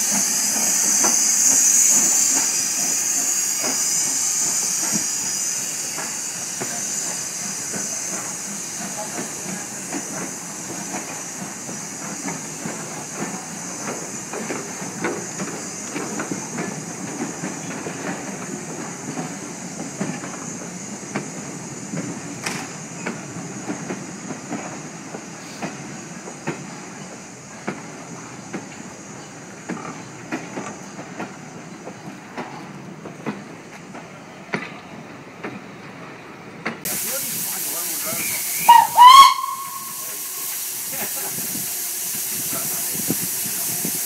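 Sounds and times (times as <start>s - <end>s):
steam locomotive hissing: 0.0s - 44.0s
train wheels clicking on rail joints: 0.0s - 44.0s.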